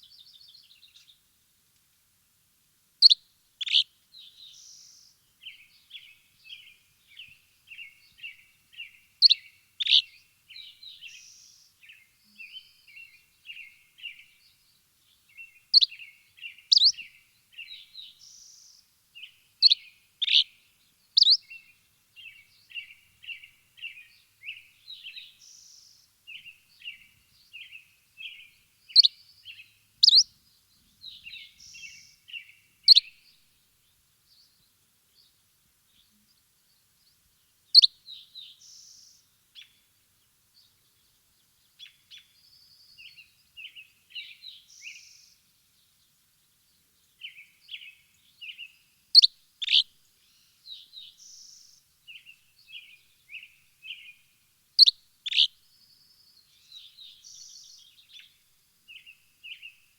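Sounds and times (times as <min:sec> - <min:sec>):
small songbirds chirping: 0:00.0 - 0:01.6, 0:03.0 - 0:59.9.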